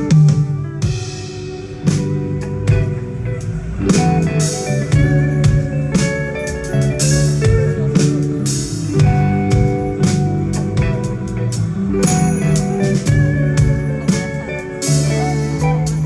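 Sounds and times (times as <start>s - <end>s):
instrumental rock band music: 0.0s - 16.0s.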